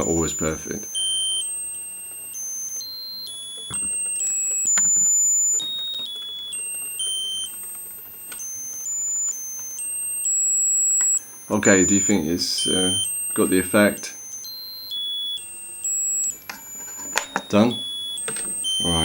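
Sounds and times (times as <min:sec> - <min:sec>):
tinny electronic beeping tune: 0:00.0 - 0:19.0.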